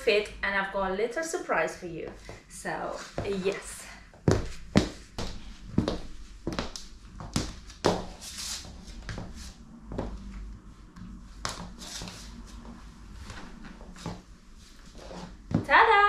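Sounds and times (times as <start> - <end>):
high heels on hardwood floor: 2.1 - 16.0.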